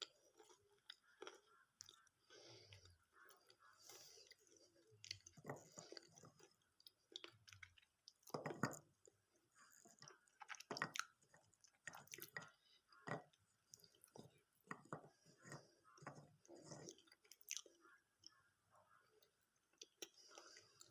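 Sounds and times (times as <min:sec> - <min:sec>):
soft wet chewing: 0:00.0 - 0:20.9.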